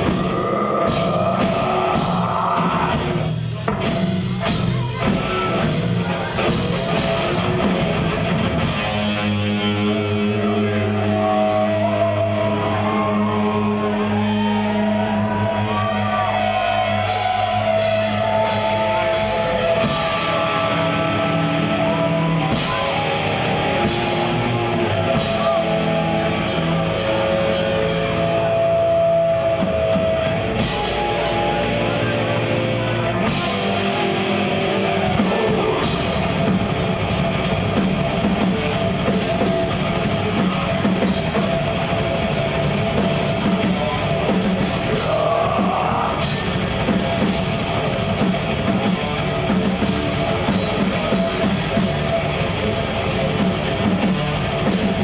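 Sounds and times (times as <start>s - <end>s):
metal band playing live: 0.0s - 55.0s.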